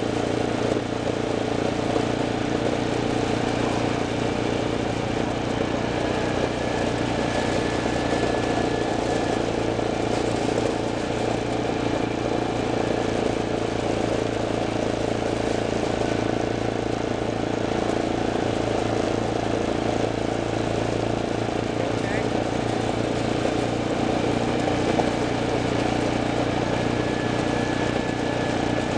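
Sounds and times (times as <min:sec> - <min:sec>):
road and wind noise: 0:00.0 - 0:28.9
vehicle engine running: 0:00.0 - 0:28.9.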